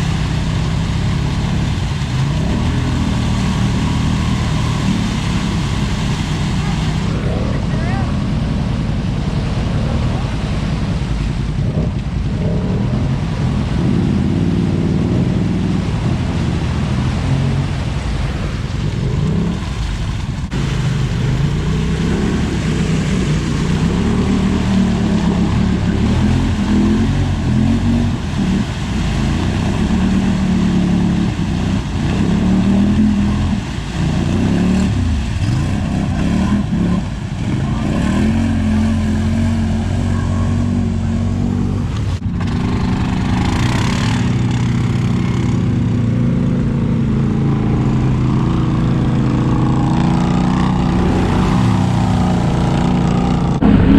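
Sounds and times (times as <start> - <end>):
off-road vehicle engine revving: 0.0 - 53.9
steady rushing noise: 0.0 - 53.9.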